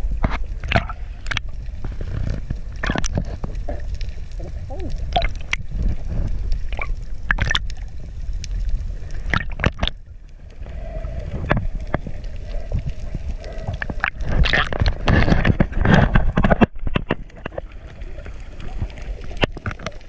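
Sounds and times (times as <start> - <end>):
muffled underwater rumbling: 0.0 - 20.0
water splashing and bubbling: 0.0 - 20.0.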